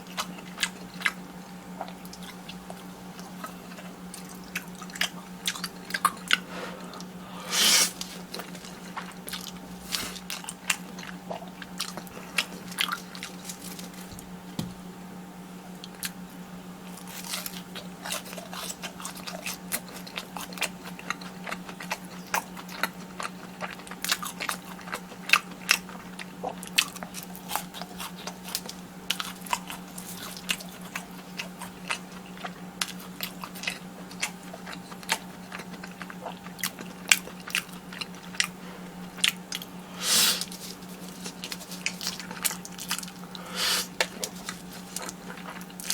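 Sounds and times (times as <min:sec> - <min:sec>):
crunchy bites and chewing: 0:00.0 - 0:14.7, 0:15.8 - 0:45.9.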